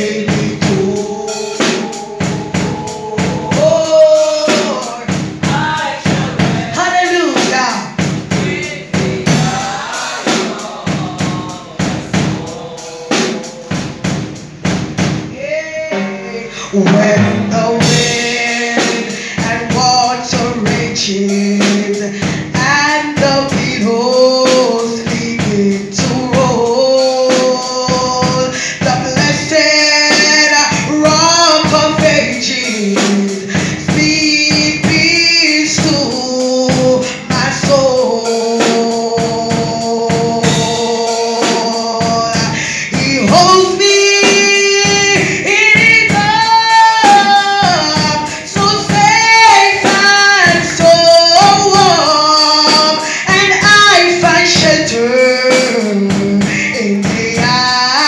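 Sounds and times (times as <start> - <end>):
woman singing lead: 0.0 - 14.2, 15.3 - 58.0
voices singing along: 0.0 - 22.1, 22.9 - 58.0
steady percussion beat: 0.0 - 58.0.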